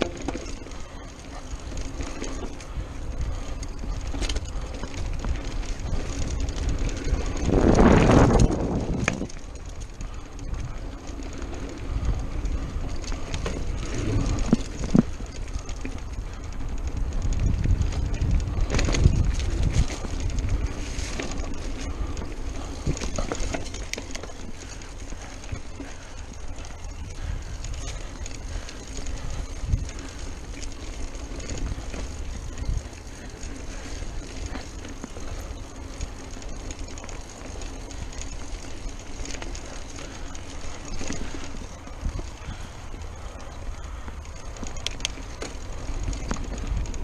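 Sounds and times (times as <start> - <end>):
bike rattling: 0.0 - 47.0
bike tyres rumbling on dirt: 0.0 - 47.0.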